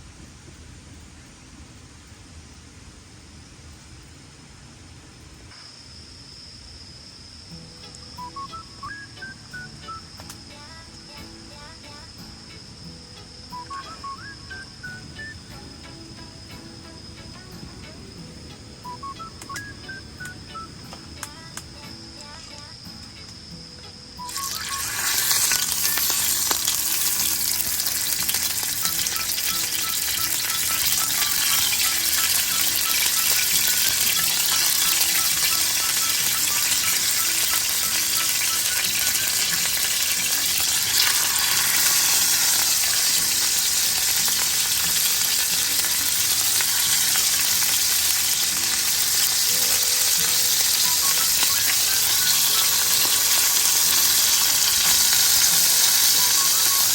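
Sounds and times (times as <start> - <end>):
food sizzling in a pan: 7.5 - 56.9.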